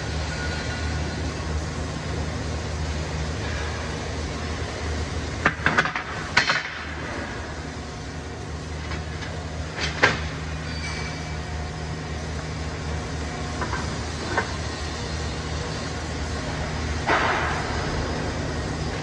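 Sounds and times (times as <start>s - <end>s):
workshop machinery hum: 0.0s - 19.0s.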